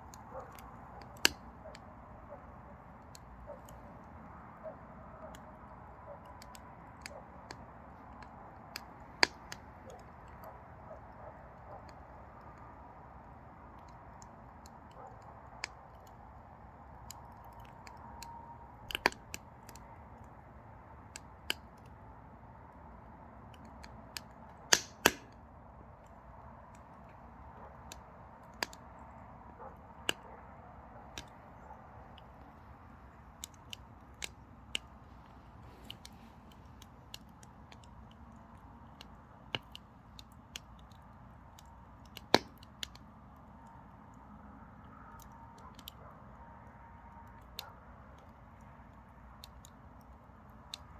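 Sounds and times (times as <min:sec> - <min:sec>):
firewood crackling and popping: 0:00.0 - 0:50.9.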